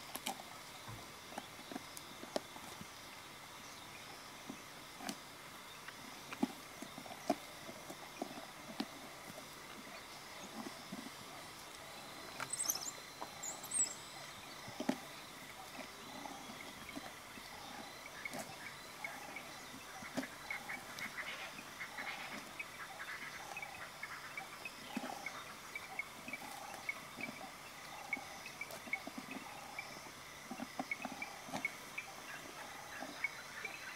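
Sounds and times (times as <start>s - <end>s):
light outdoor hiss: 0.0s - 33.9s
wild dogs calling and chirping: 0.0s - 33.9s.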